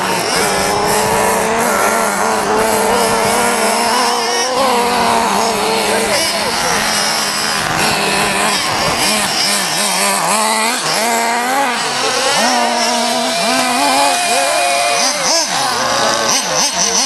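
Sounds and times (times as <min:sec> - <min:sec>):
small two-stroke engine revving: 0:00.0 - 0:17.0.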